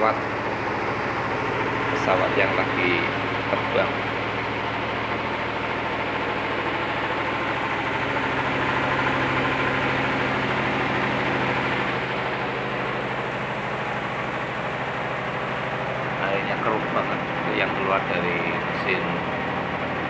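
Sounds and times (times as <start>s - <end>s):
washing machine droning: 0.0s - 20.0s.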